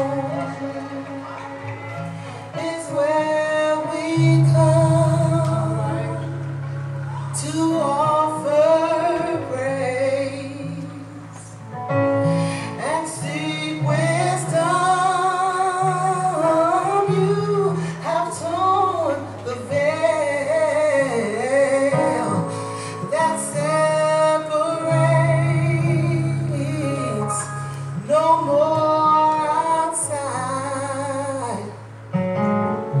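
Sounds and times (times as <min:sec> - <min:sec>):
woman singing with vibrato: 0:00.0 - 0:11.6, 0:12.7 - 0:32.0
instrumental backing with bass: 0:00.0 - 0:33.0.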